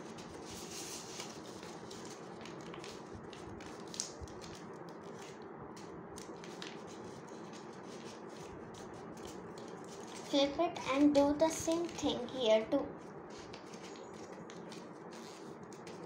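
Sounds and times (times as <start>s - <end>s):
paper crinkling as folded: 0.0s - 12.4s, 13.3s - 16.0s
steady low hiss: 0.0s - 16.0s.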